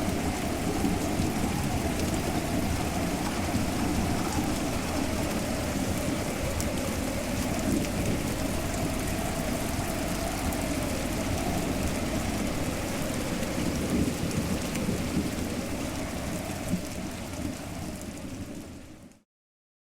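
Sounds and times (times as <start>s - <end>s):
steady rain: 0.0s - 19.2s.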